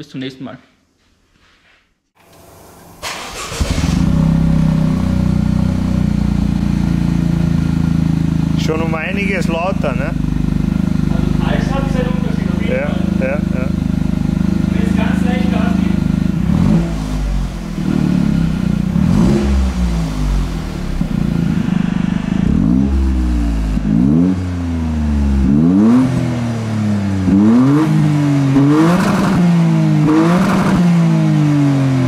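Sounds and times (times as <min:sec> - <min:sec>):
car engine revving: 0:03.0 - 0:32.0.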